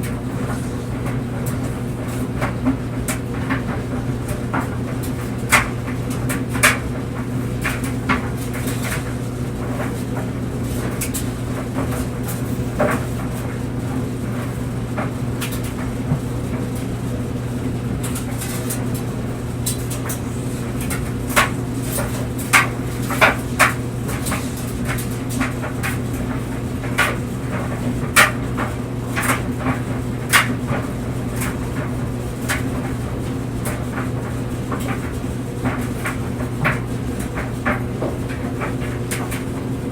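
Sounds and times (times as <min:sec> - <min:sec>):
clothes dryer humming: 0:00.0 - 0:39.9.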